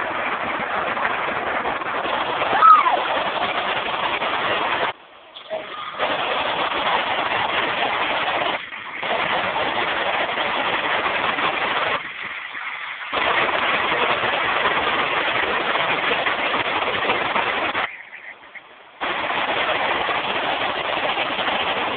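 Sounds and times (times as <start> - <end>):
waterfall rushing: 0.0 - 21.9.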